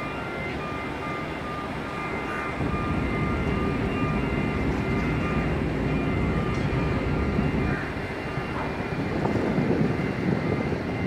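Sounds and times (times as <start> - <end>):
faint crane machinery whine: 0.0 - 11.0
wind buffeting microphone: 0.0 - 11.0.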